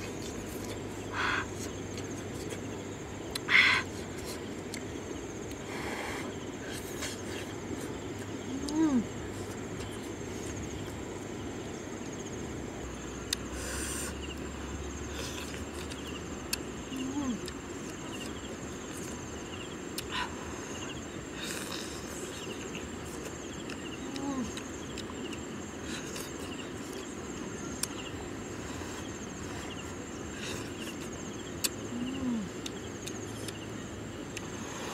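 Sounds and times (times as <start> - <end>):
mouth sounds of eating: 0.0 - 11.0, 13.3 - 33.7
insects chirring: 0.0 - 34.9.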